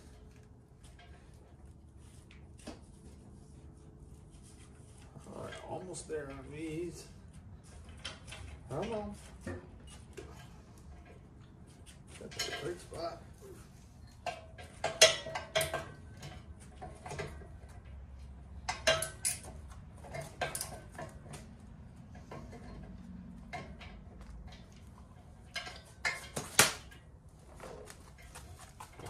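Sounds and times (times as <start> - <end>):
metal tools clanking on steel: 5.2 - 29.0.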